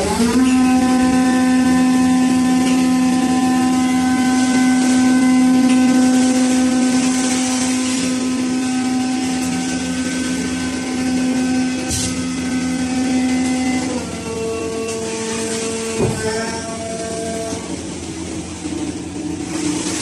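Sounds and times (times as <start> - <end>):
hydraulic pump and motor humming: 0.0 - 20.0.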